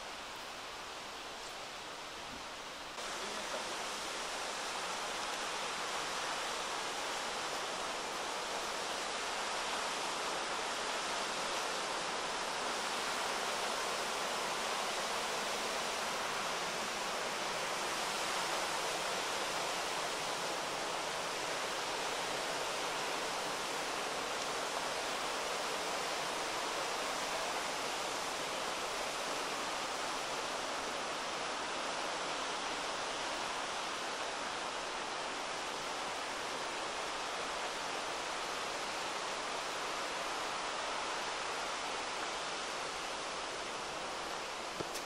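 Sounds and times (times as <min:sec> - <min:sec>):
river flowing over rocks: 0:00.0 - 0:45.0.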